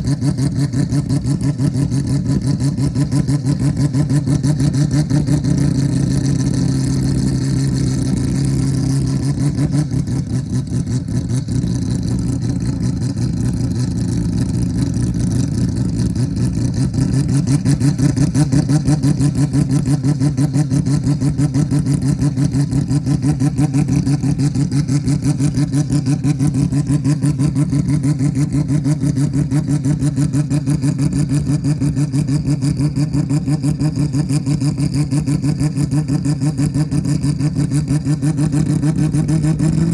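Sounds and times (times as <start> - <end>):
rotary engine idling: 0.0 - 39.9.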